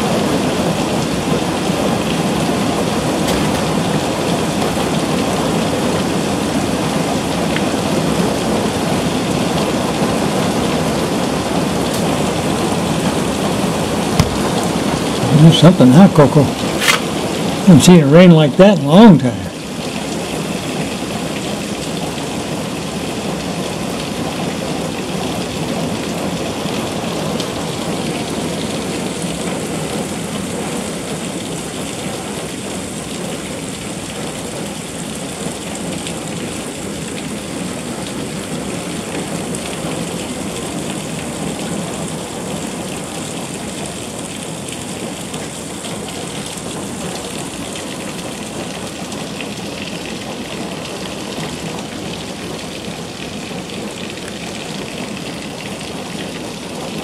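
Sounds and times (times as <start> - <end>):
heavy rain on concrete: 0.0 - 57.0.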